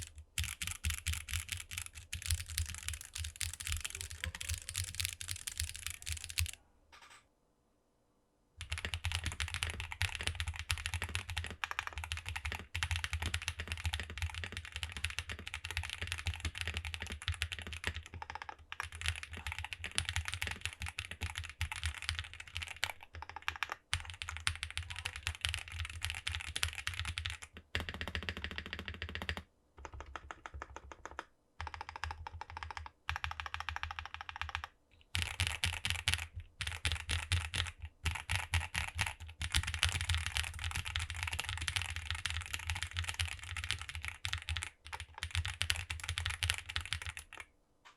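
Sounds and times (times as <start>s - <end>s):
mechanical keyboard typing: 0.0s - 6.6s, 8.6s - 47.5s.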